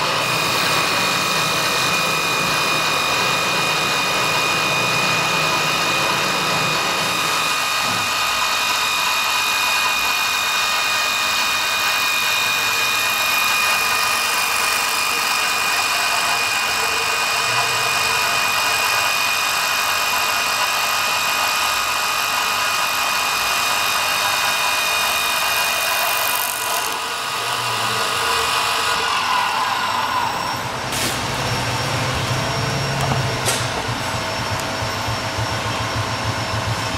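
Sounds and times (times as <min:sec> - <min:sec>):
cutter shaving spinning wood: 0:00.0 - 0:36.9
lathe motor whine: 0:00.0 - 0:36.9.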